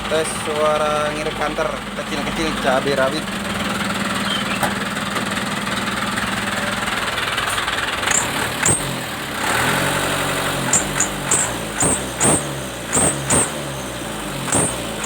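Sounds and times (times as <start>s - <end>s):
diesel truck engine idling and revving: 0.0s - 15.0s.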